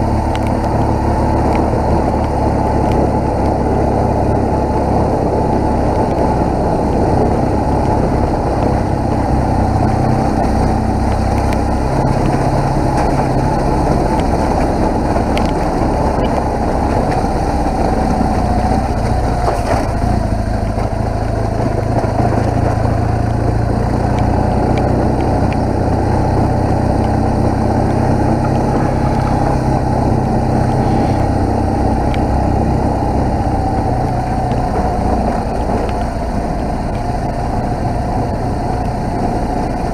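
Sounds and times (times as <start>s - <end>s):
motorcycle engine revving: 0.0s - 39.9s
rushing noise: 0.0s - 39.9s.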